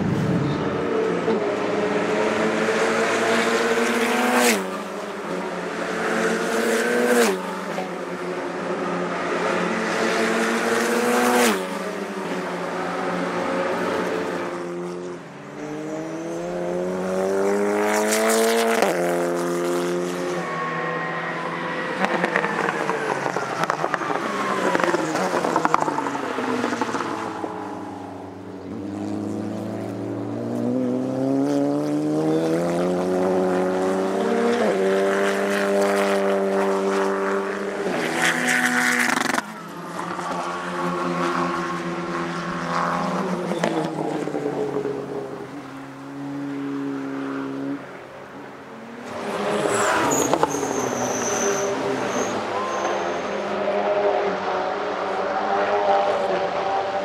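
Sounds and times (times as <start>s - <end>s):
race car engines accelerating: 0.0s - 57.0s.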